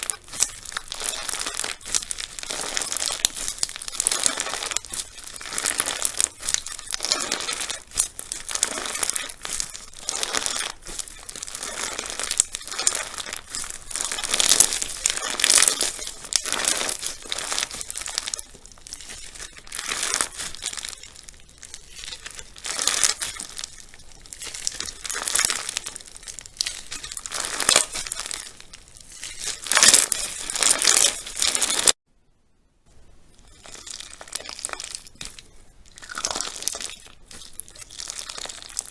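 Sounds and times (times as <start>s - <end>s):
slime crackling when squeezed: 0.0s - 32.0s, 33.4s - 38.9s.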